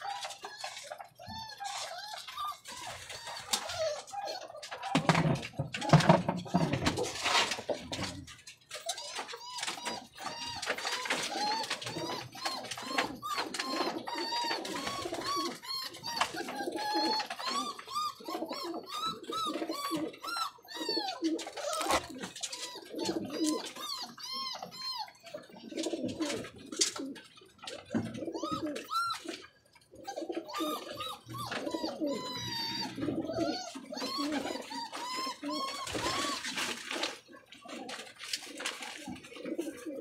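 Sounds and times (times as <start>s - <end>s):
pigeons cooing and calling: 0.0s - 40.0s.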